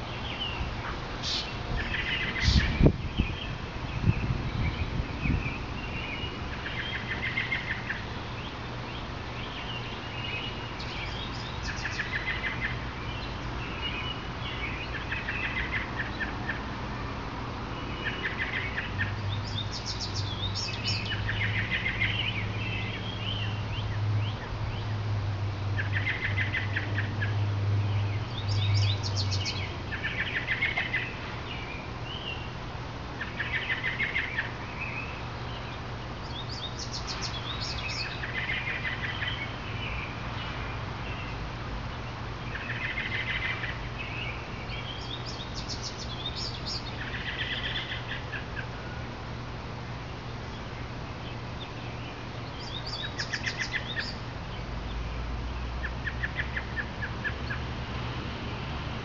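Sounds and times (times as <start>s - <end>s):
songbirds singing with trills: 0.0s - 59.0s.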